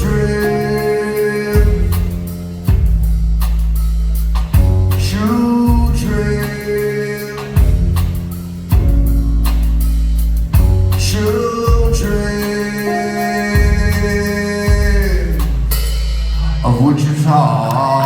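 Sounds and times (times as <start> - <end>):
drums and cymbals: 0.0 - 17.7
deep bass notes: 0.0 - 18.0.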